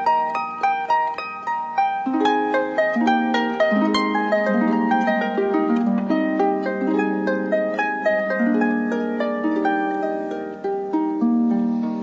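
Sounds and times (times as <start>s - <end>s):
harp plucked notes: 0.0s - 12.0s.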